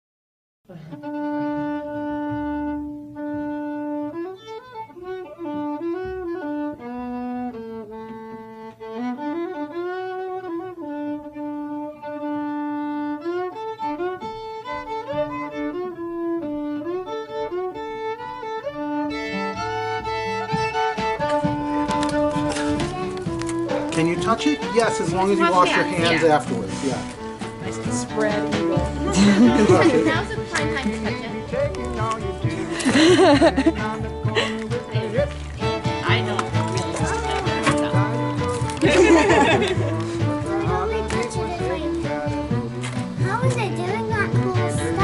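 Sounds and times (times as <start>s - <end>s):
fiddle playing slow tune: 0.7s - 45.0s.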